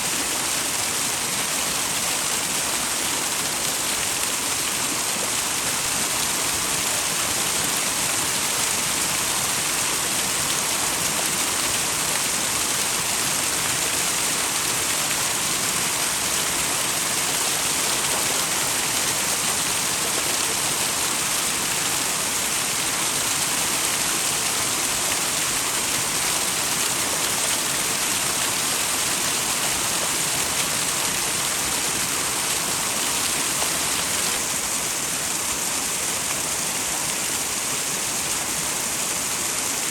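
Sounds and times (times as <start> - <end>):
waterfall pouring into stream: 0.0 - 39.9.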